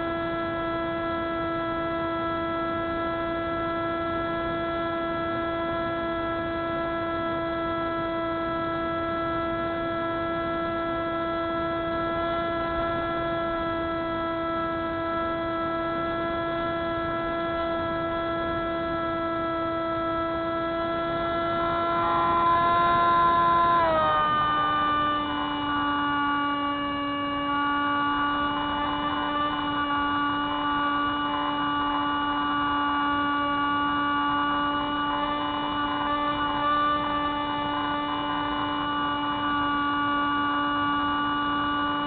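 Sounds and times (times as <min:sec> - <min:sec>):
model plane electric motor: 0:00.0 - 0:42.0.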